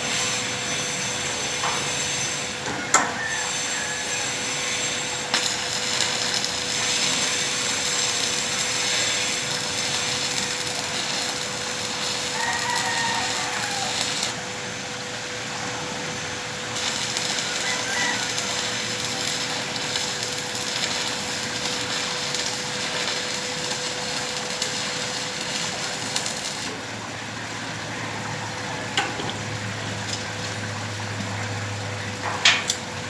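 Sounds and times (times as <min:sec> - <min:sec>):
welding arc crackling and hissing: 0:00.0 - 0:33.0.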